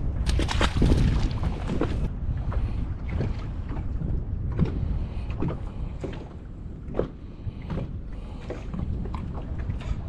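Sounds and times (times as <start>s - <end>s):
waves slapping boat hull: 0.0s - 10.0s.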